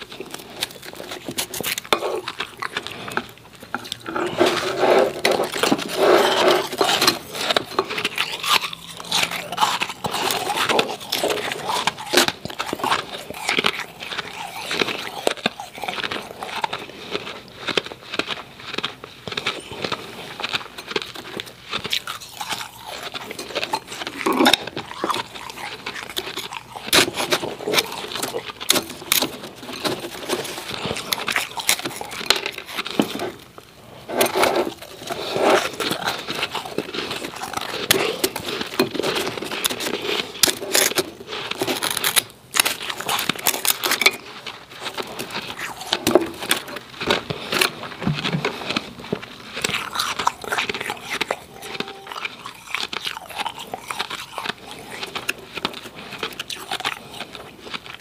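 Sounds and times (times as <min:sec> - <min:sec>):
chewing crunchy ice: 0:00.0 - 0:58.0.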